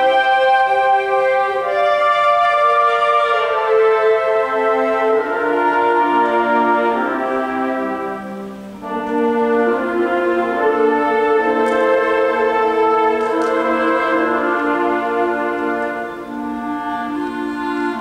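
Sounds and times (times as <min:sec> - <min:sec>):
orchestra playing held chords: 0:00.0 - 0:18.0.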